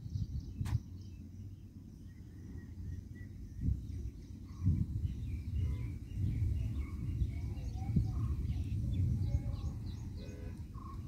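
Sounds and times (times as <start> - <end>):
faint bird chirps: 0.0 - 11.0
low rumble: 0.0 - 11.0.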